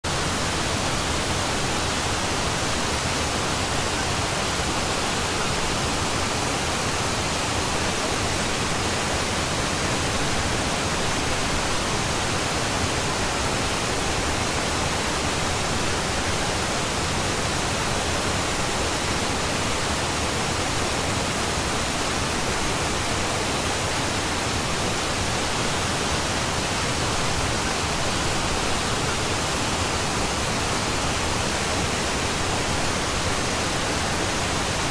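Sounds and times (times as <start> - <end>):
steady pink noise hiss: 0.0 - 34.9.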